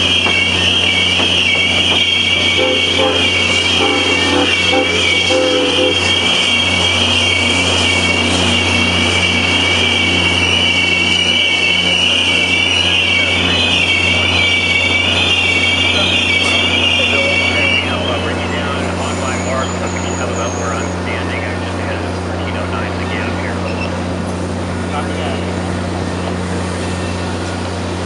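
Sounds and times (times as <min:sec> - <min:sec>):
train wheels squealing on rails: 0:00.0 - 0:28.0.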